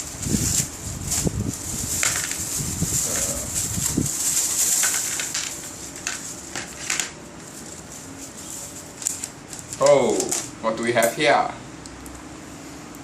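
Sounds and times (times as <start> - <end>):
plastic bags crinkling: 0.0 - 10.6.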